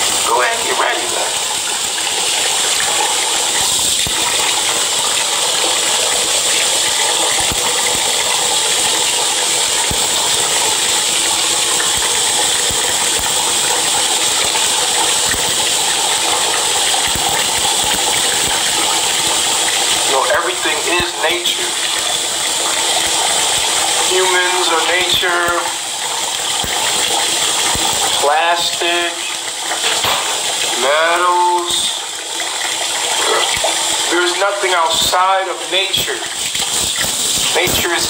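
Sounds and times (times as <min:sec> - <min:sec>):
tap water running: 0:00.0 - 0:38.0.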